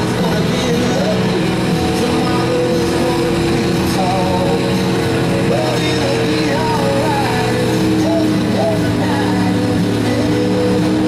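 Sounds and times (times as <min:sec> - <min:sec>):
truck engine under heavy load: 0:00.0 - 0:11.0.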